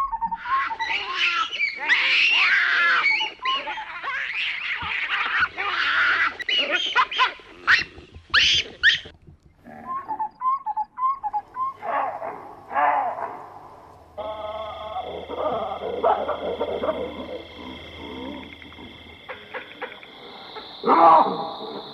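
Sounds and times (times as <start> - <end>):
baboons calling and screeching: 0.0 - 21.9.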